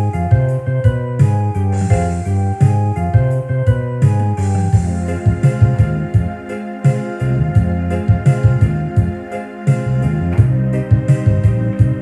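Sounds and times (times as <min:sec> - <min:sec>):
instrumental music with bass line: 0:00.0 - 0:12.0.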